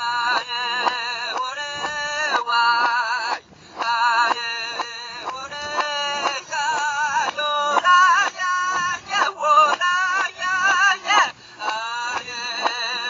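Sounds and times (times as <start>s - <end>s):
high-pitched singing with vibrato: 0.0s - 13.0s.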